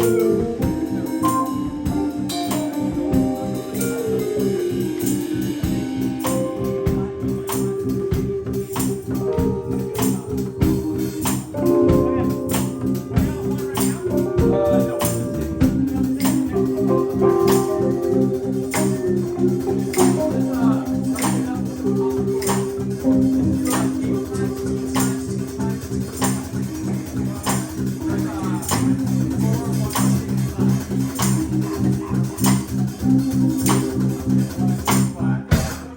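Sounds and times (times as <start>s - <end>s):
repeating bass line: 0.0s - 35.4s
live band playing: 0.0s - 35.9s
percussion hits: 0.0s - 35.9s.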